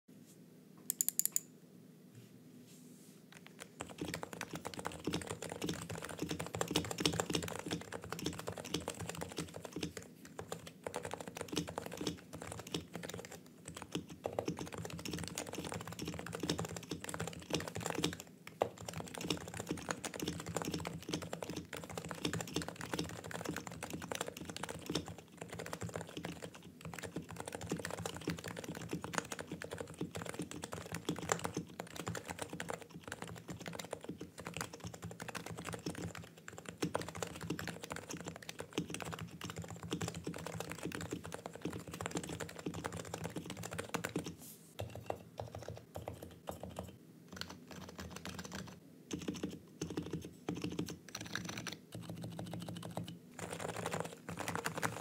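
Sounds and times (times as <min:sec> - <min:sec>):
keyboard typing: 0:00.9 - 0:01.5, 0:03.4 - 0:55.0.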